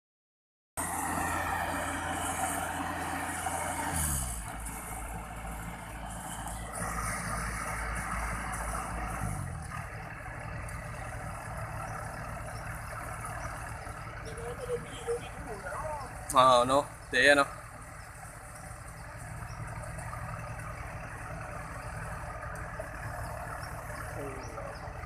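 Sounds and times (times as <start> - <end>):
combine harvester engine running: 0.8 - 25.0.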